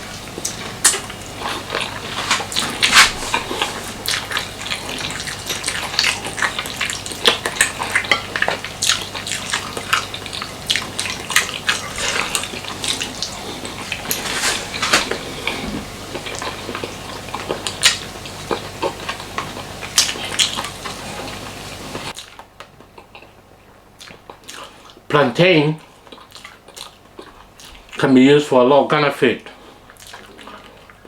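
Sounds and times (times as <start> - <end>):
wet chewing: 0.0 - 23.4, 24.0 - 25.1, 25.8 - 28.0, 29.8 - 31.0.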